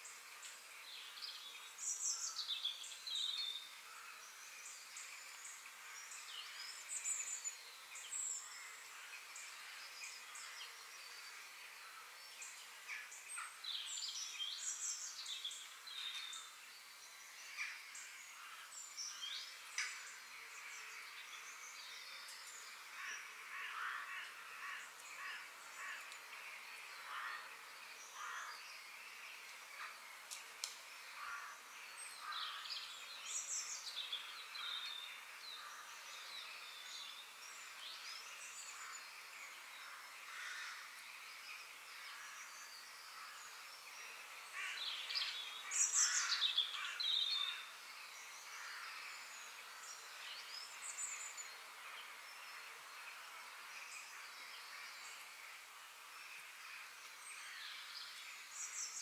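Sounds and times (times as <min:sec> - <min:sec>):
small birds chirping: 0:00.0 - 0:59.0
soft outdoor hiss: 0:00.0 - 0:59.0.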